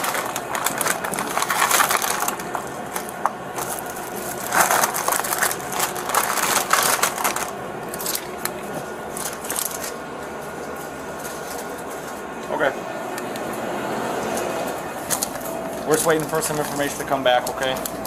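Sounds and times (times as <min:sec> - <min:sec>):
plastic bags crinkling: 0:00.0 - 0:12.3, 0:15.0 - 0:18.0.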